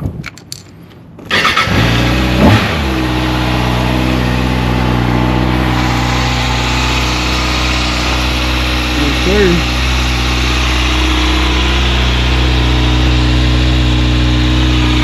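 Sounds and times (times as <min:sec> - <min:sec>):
motorcycle engine starting and idling: 0:01.3 - 0:15.0.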